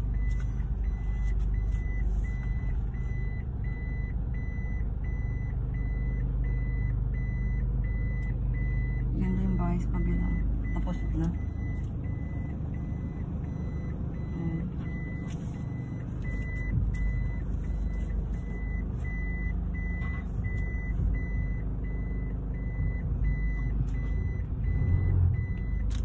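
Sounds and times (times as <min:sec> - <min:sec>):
engine rumble inside cabin: 0:00.0 - 0:26.0
vehicle warning beeper: 0:00.0 - 0:26.0.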